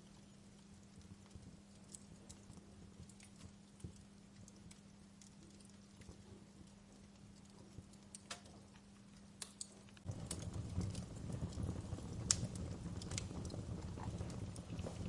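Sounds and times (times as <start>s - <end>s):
low rumble of burning flames: 0.0s - 15.0s
wood fire crackling and popping: 0.0s - 15.0s.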